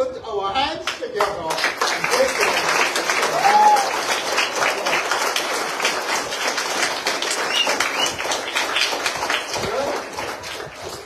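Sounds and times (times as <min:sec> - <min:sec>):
children clapping: 0:00.9 - 0:11.0.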